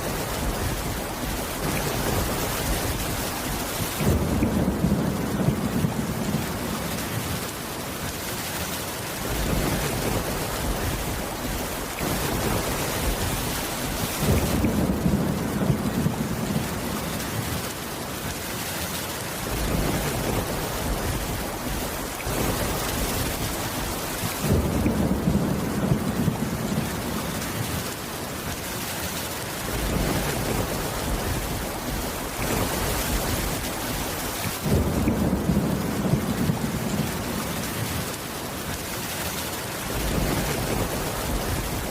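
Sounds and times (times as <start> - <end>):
thunder rumbling: 0.0 - 8.1, 9.2 - 18.3, 19.4 - 38.8, 39.8 - 41.9
heavy rain: 0.0 - 41.9.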